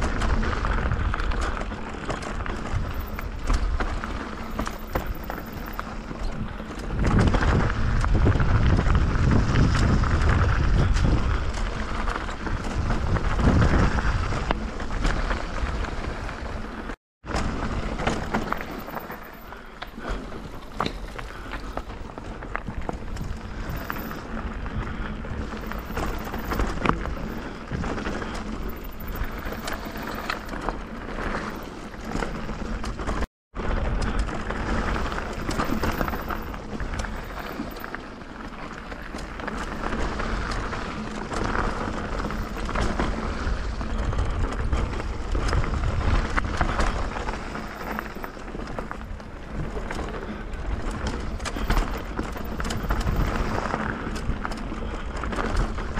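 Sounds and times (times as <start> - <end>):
bike clicks and rattles: 0.0 - 55.9
tyres rolling on loose ground: 0.0 - 55.9
wind buffeting microphone: 0.0 - 55.9.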